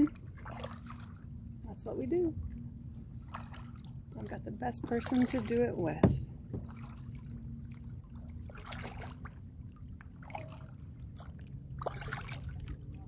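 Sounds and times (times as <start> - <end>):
kayak paddle splashing water: 0.0 - 1.3, 3.1 - 13.0
low steady rumble: 0.0 - 13.0.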